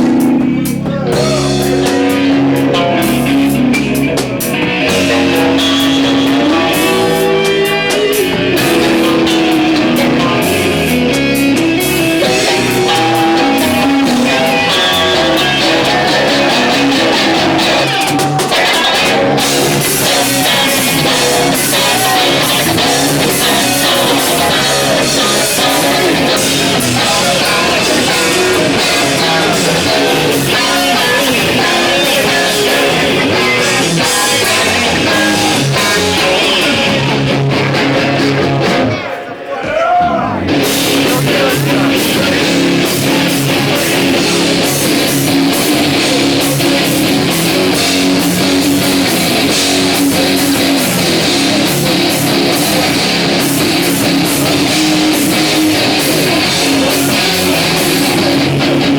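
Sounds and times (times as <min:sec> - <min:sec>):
rock music on guitar and drums: 0:00.0 - 0:39.0, 0:40.5 - 0:58.9.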